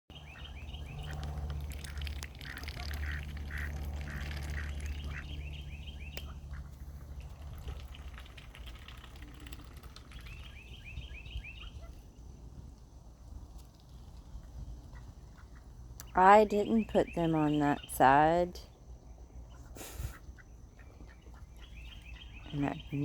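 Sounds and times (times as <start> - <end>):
ducklings peeping: 0.1 - 12.2, 13.4 - 18.6, 19.3 - 23.0.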